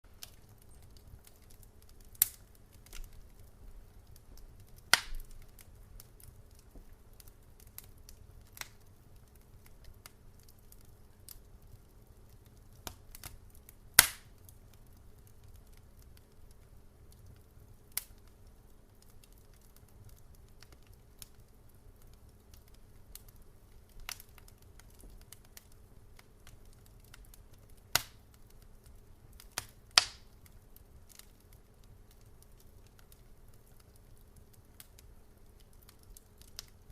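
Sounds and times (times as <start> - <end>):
faint low background noise: 0.0 - 36.9
wood fire crackling: 0.0 - 36.9.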